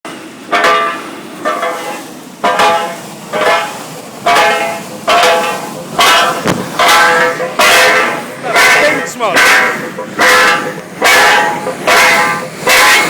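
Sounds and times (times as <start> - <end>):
manhole venting air with horn-like hoots: 0.5 - 13.0.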